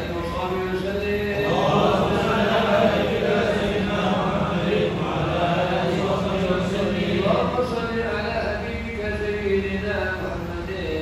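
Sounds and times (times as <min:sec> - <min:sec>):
congregation chanting in unison: 0:00.0 - 0:10.2.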